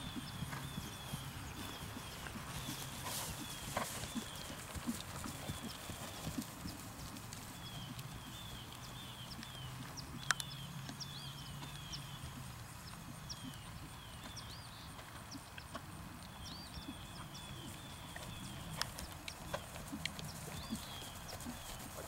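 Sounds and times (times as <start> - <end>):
horse hoofbeats on grass: 0.0 - 22.0.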